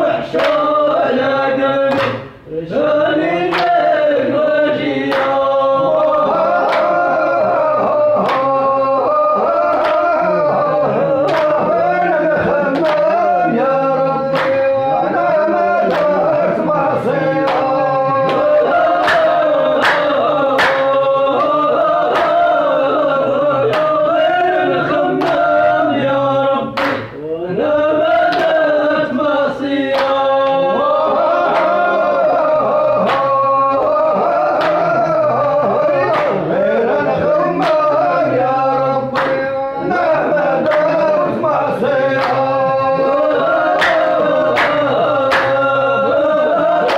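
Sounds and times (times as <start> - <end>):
hand claps: 0.0 - 2.4, 3.4 - 16.7, 17.3 - 27.2, 28.2 - 36.5, 37.5 - 46.9
men singing a chant: 0.0 - 46.9.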